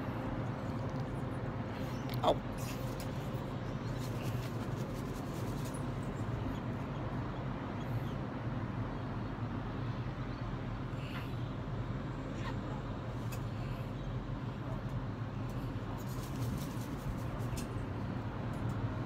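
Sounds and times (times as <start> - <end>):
low outdoor background hum: 0.0 - 19.0.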